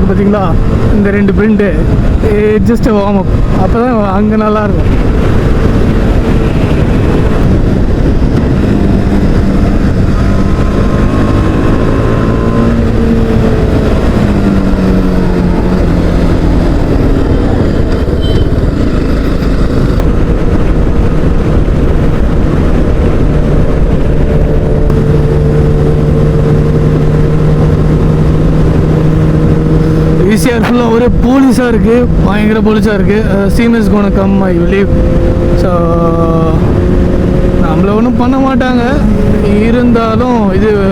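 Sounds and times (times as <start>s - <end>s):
motorcycle engine revving: 0.0s - 40.9s
wind rushing over microphone: 0.0s - 40.9s.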